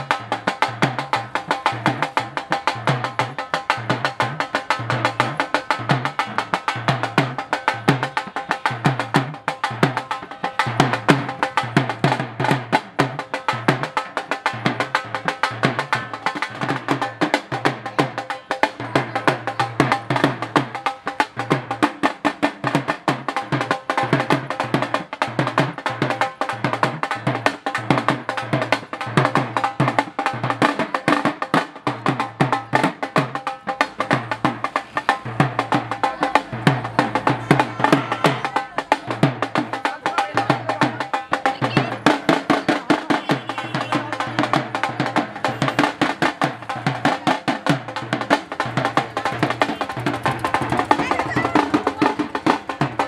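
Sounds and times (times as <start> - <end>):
music with fast dense drumming: 0.0 - 53.0.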